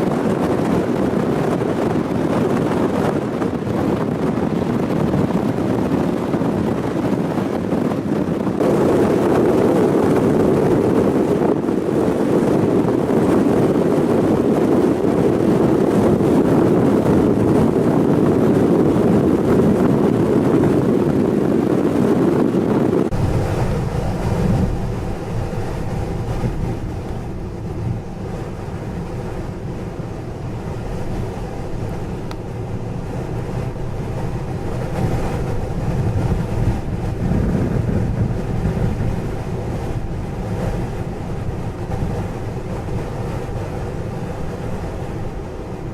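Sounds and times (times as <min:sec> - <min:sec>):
vehicle noise: 0:00.0 - 0:45.9
wind blowing across microphone: 0:00.0 - 0:45.9.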